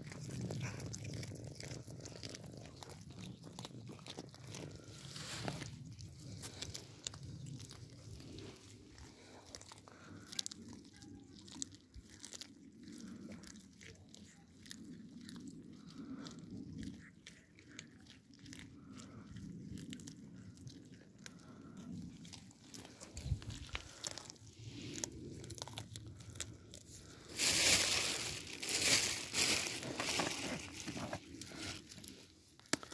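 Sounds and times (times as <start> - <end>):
cats crunching raw fish: 0.0 - 32.9.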